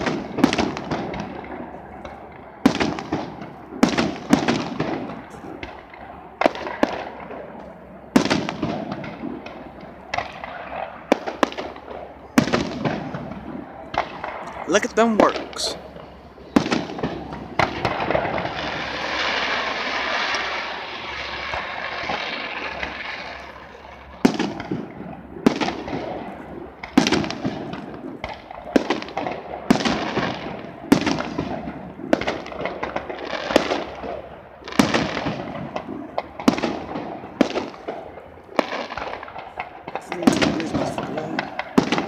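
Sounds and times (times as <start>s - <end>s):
firework booms with echo: 0.0s - 14.4s, 16.5s - 23.3s, 24.2s - 42.0s
distant fireworks crackling: 0.0s - 42.0s.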